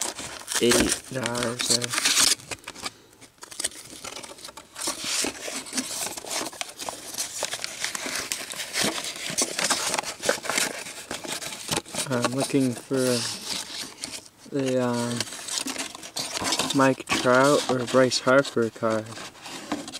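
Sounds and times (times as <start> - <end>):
cardboard packaging rustling: 0.0 - 19.9.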